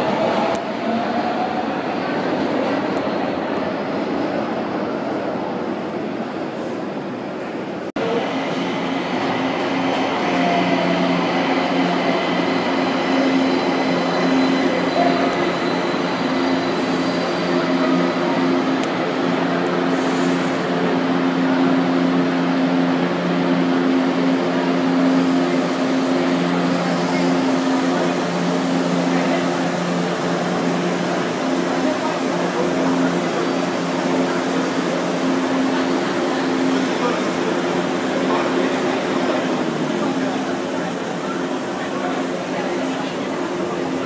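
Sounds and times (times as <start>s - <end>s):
train electric hum: 0.0s - 44.0s
train running noise: 0.0s - 44.0s.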